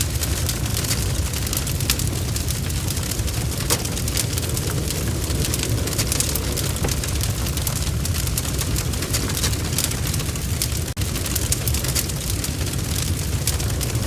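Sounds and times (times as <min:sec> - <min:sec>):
rain pattering: 0:00.0 - 0:14.0
wood fire crackling: 0:00.0 - 0:14.0.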